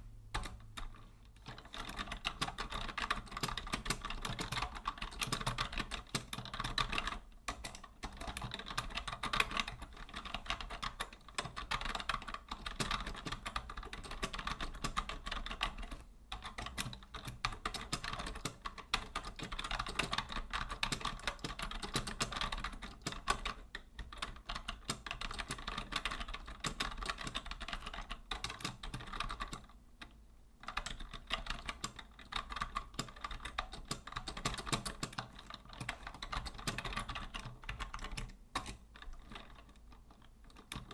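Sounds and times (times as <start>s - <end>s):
keyboard typing: 0.3s - 40.9s.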